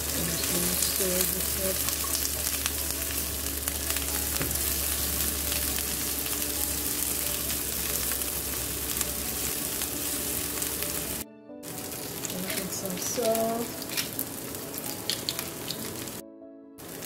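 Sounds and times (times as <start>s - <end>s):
onions sizzling in hot oil: 0.0s - 16.2s, 16.8s - 17.0s.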